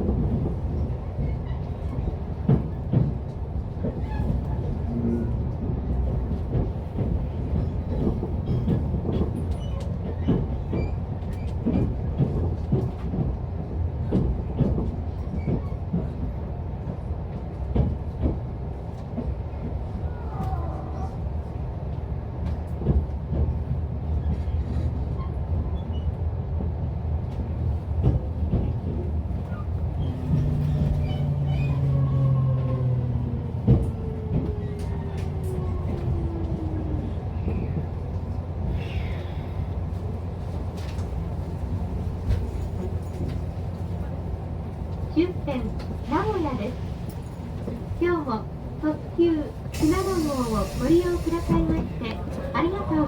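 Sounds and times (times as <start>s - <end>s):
train interior low rumble: 0.0s - 53.0s.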